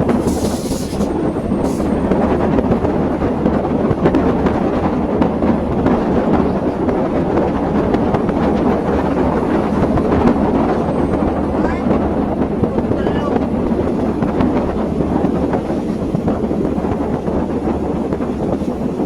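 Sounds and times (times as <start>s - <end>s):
train rumbling and rattling: 0.0s - 19.0s.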